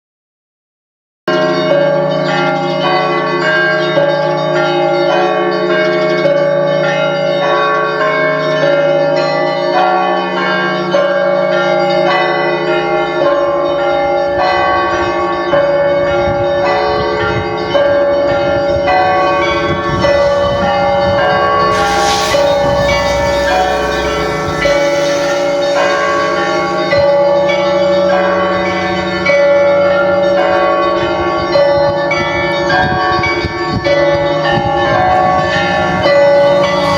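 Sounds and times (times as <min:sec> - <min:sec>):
large bell hum: 0:01.3 - 0:36.9
small church bells ringing: 0:01.3 - 0:36.9.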